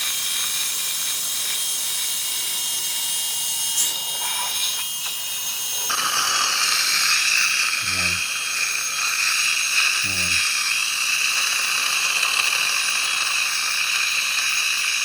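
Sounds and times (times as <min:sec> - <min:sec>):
dental drill whining: 0:00.0 - 0:15.0.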